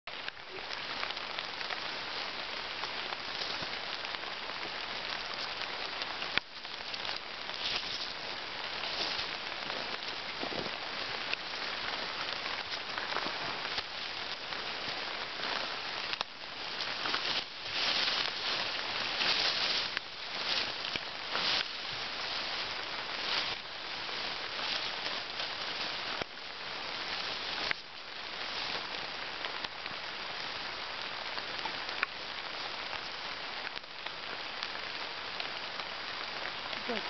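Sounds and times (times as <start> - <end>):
rain pattering on leaves and water: 0.1 - 37.0.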